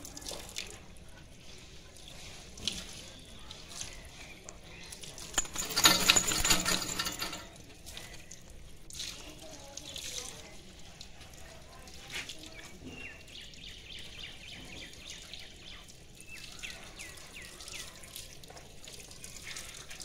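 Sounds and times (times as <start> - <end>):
hose water splashing on dog: 0.0 - 6.2, 7.5 - 20.0.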